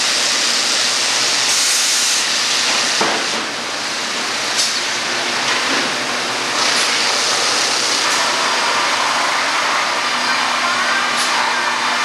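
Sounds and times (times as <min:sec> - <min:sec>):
sawmill machinery running: 0:00.0 - 0:12.0.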